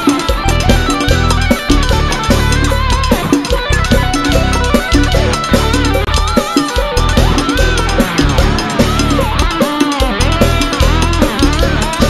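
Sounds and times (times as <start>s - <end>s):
electric guitar lead melody: 0.0s - 12.0s
live band playing: 0.0s - 12.0s.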